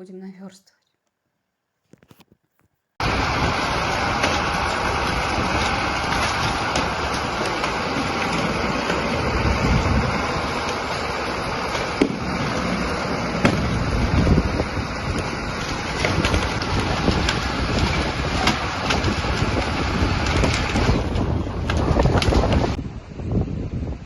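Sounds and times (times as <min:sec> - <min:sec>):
wind rushing over microphone: 0:03.0 - 0:24.0.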